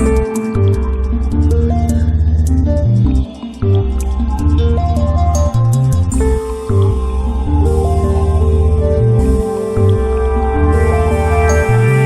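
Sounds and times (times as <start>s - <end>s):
calm new-age music: 0.0s - 12.0s
steady low bass: 0.0s - 12.0s.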